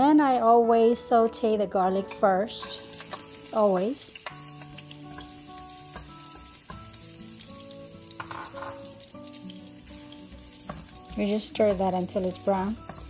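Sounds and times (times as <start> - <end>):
garlic sizzling in hot oil: 2.1 - 13.0.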